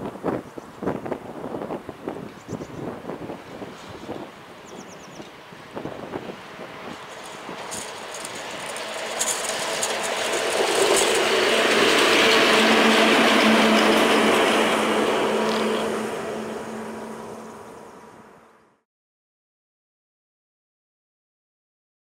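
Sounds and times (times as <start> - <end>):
wheel and rail noise: 0.0 - 18.6
steady locomotive hum: 0.0 - 18.8.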